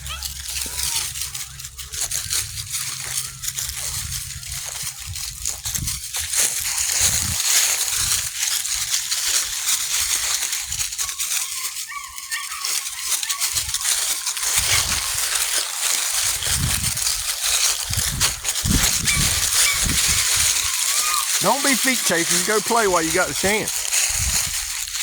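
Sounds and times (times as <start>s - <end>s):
dry leaves rustling and crackling: 0.0s - 25.0s.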